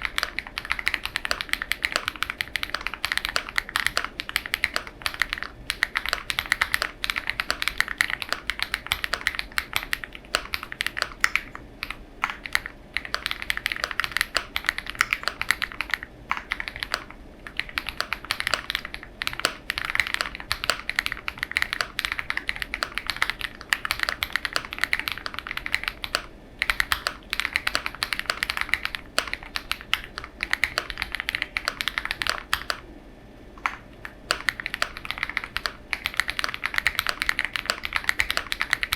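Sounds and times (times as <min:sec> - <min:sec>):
mechanical keyboard typing: 0:00.0 - 0:32.8, 0:33.6 - 0:38.9.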